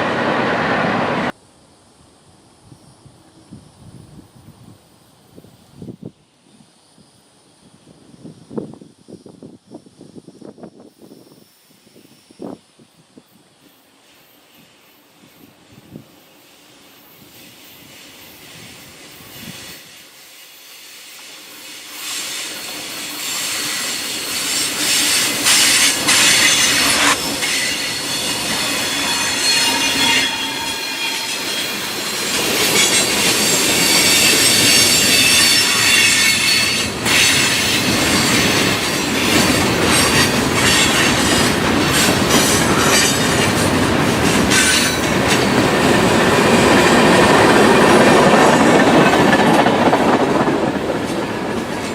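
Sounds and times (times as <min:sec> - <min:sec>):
freight train rolling past: 0:00.0 - 0:01.4, 0:10.2 - 0:51.9
steel wheels squealing on rails: 0:05.1 - 0:51.9.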